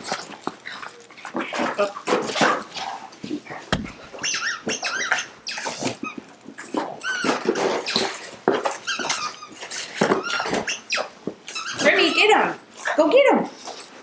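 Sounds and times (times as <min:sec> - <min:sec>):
dogs squealing and whining: 0:00.2 - 0:02.6, 0:03.3 - 0:13.0.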